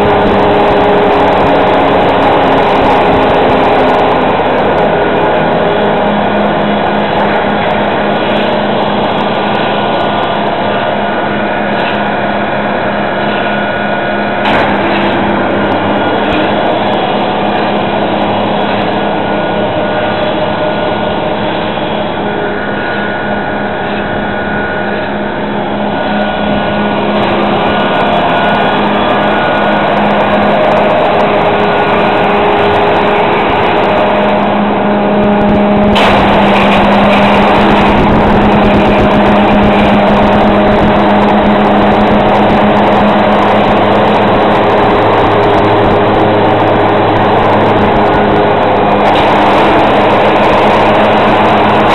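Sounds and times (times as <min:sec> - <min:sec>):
tractor machine drone: 0:00.0 - 0:51.9.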